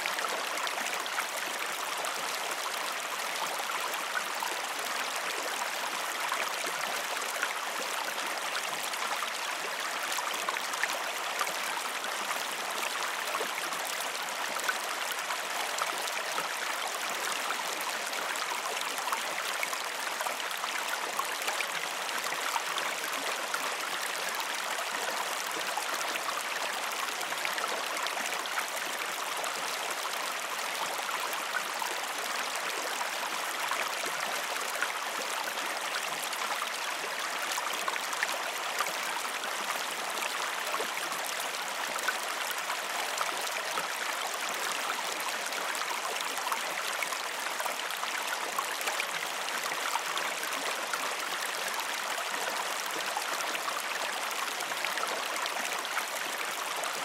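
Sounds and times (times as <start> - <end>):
creek running over rocks: 0.0 - 57.0.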